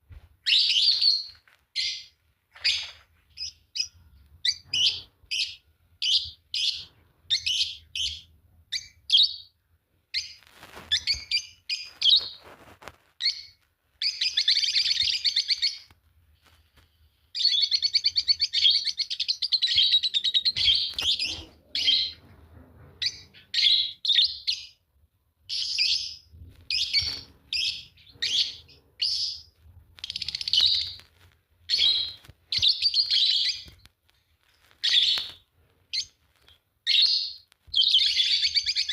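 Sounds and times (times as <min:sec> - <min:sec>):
lovebirds chirping: 0:00.4 - 0:38.9.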